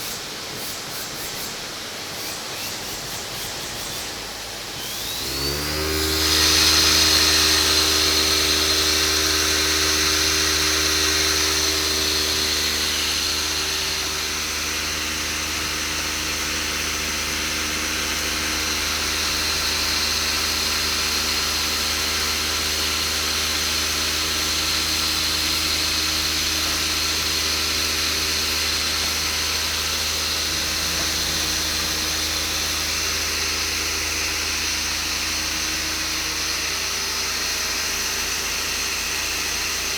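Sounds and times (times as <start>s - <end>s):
machine high whine: 0.0s - 39.9s.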